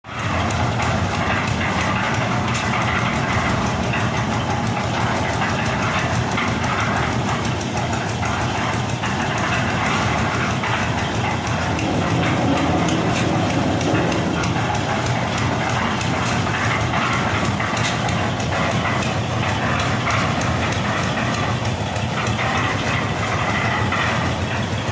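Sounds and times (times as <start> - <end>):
concrete mixer running: 0.0 - 24.9.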